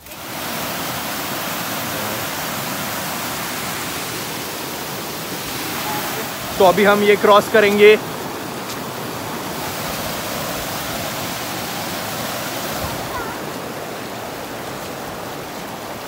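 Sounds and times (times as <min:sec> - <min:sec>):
fast-flowing stream water: 0:00.0 - 0:16.0.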